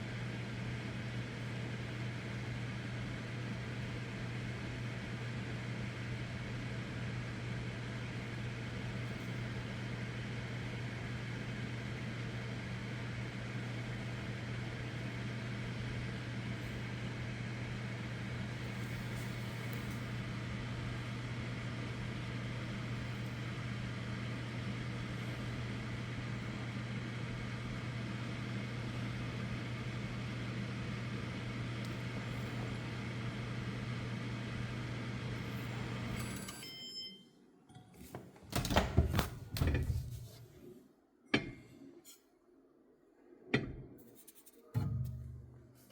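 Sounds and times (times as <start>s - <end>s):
microwave oven humming: 0.0s - 42.0s.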